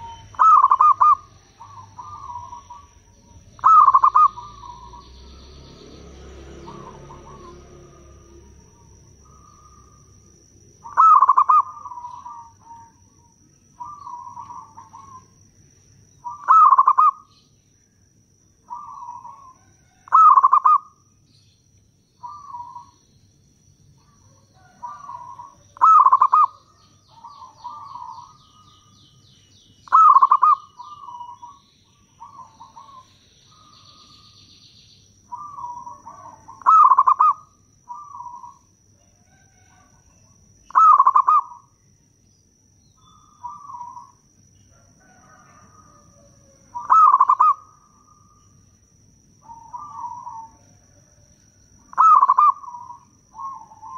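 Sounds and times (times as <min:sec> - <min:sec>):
dove cooing: 0:00.0 - 0:05.8, 0:06.4 - 0:15.4, 0:16.2 - 0:17.4, 0:18.7 - 0:21.0, 0:22.2 - 0:23.0, 0:24.0 - 0:29.0, 0:29.8 - 0:34.4, 0:35.2 - 0:41.8, 0:43.0 - 0:44.2, 0:44.8 - 0:48.4, 0:49.4 - 0:51.2, 0:51.9 - 0:53.9.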